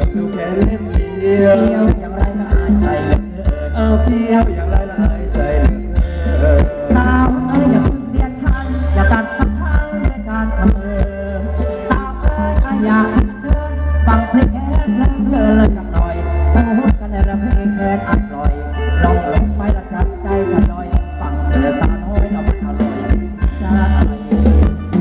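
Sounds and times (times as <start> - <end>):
steady drum beat: 0.0 - 18.6, 19.3 - 25.0
band playing dance music: 0.0 - 25.0
electric bass line: 0.0 - 25.0.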